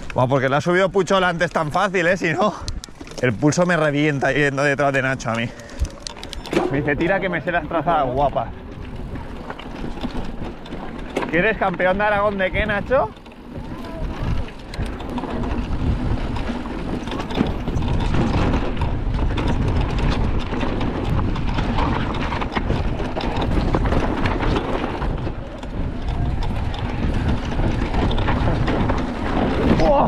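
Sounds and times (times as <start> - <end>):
bike rattles and clicks: 0.0 - 30.0
bike tyres on dirt: 0.0 - 30.0
wind on microphone: 2.4 - 30.0.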